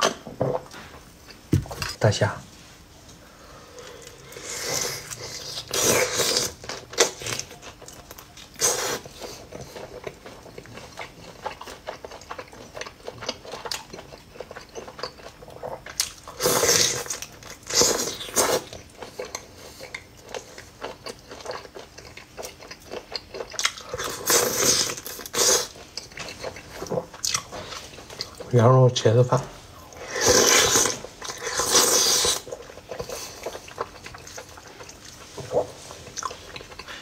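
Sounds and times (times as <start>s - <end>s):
chewing and crunching prawns: 3.8s - 28.8s, 29.8s - 37.0s.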